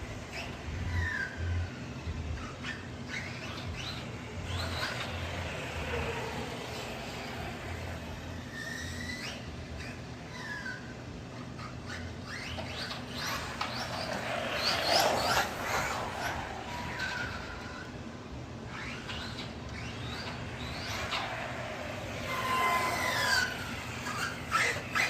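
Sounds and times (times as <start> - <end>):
rc truck motor whine: 0.0 - 25.0.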